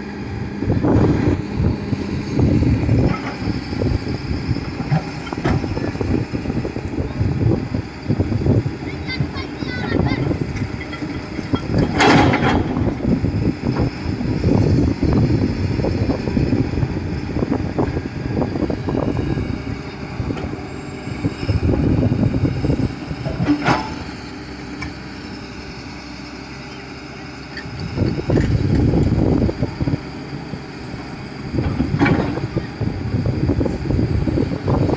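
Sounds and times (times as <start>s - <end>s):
excavator engine rumbling: 0.0s - 34.9s.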